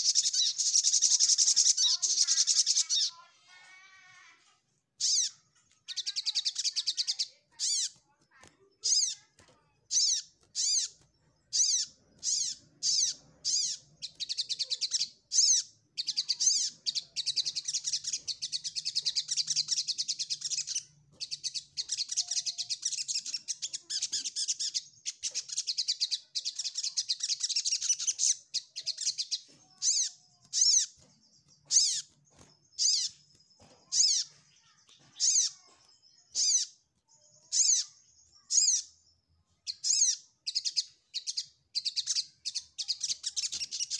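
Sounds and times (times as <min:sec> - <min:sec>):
sunbird chirping: 0:00.0 - 0:03.3, 0:05.0 - 0:43.9
fast twittering birdsong: 0:00.0 - 0:43.9.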